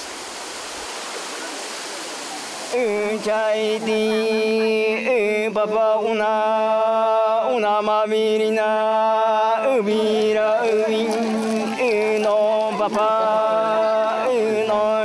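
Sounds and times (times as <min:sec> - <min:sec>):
single voice chanting: 0:02.7 - 0:15.0.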